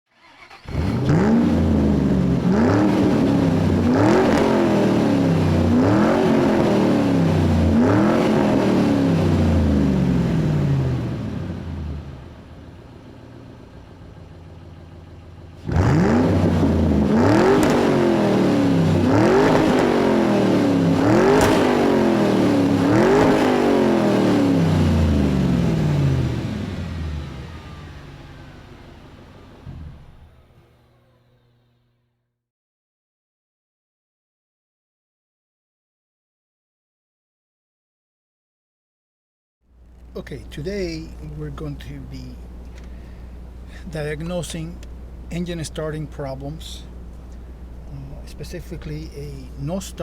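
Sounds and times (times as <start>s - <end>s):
car engine revving: 0.2s - 31.7s, 39.8s - 50.0s.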